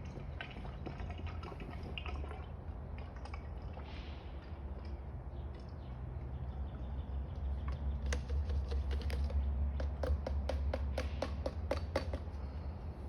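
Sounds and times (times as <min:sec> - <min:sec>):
oil pouring and dripping: 0:00.0 - 0:12.5.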